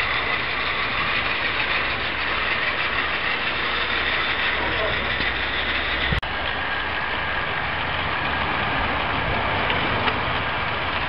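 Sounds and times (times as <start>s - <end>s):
model train motor whirring: 0.0s - 11.0s
wheels rattling on rails: 0.0s - 11.0s.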